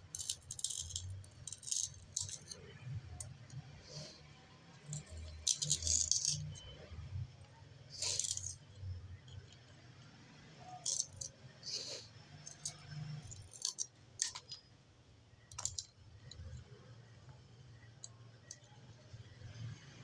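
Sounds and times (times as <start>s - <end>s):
metallic clicks and scrapes: 0.0s - 14.7s, 15.4s - 16.9s.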